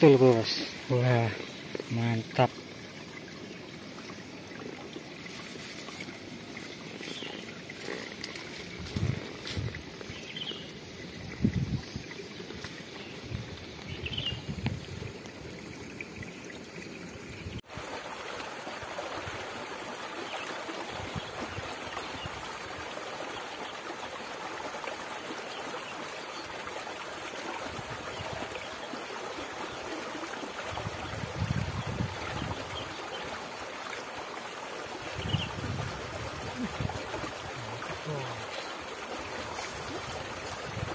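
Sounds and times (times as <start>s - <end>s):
water rushing in a ditch: 0.0s - 40.9s.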